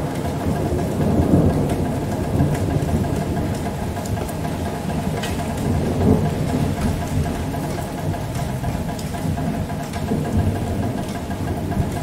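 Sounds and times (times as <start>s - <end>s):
rainstorm: 0.0s - 12.0s
rumble of thunder: 0.0s - 12.0s.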